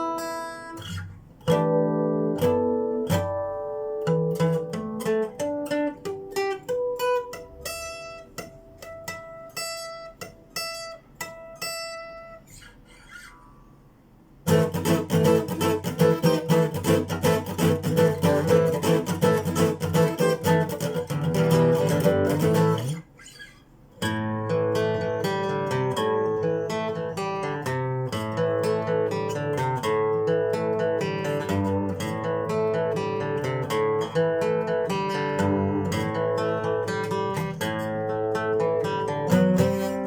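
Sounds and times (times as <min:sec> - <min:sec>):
acoustic guitar strumming chords: 0:00.0 - 0:13.7, 0:14.3 - 0:40.0
acoustic guitar plucked notes: 0:00.0 - 0:13.8, 0:14.4 - 0:40.0.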